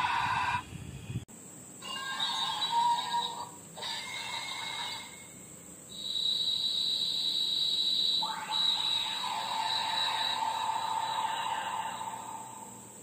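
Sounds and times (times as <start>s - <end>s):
toy electronic tones: 1.8s - 12.5s.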